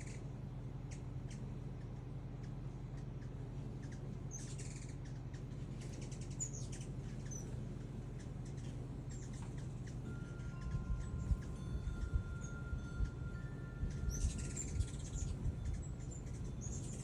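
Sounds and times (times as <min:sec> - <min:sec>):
low hum: 0:00.0 - 0:17.0
small birds chirping: 0:00.0 - 0:17.0.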